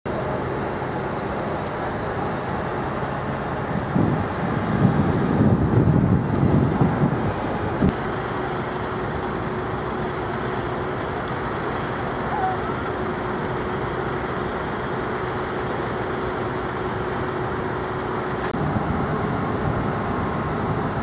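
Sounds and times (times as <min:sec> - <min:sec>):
engine and vehicle rumble: 0:00.0 - 0:21.0.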